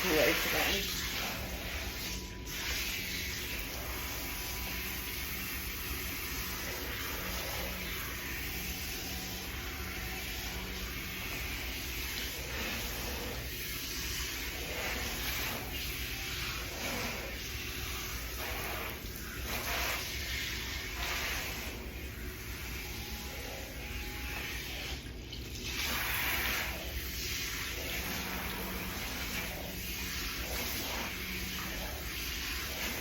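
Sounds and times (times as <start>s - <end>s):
water running from sprayer: 0.0s - 33.0s.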